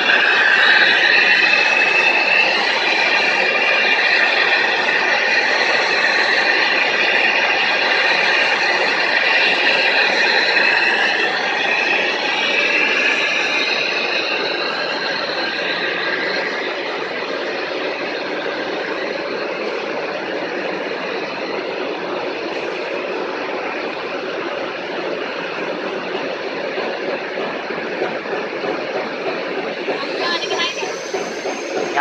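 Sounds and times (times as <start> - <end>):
machine whining: 0.0 - 32.0.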